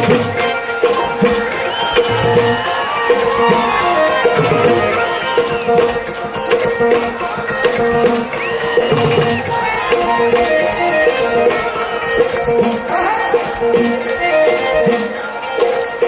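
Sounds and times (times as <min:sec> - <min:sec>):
hand drums rhythm: 0:00.0 - 0:16.0.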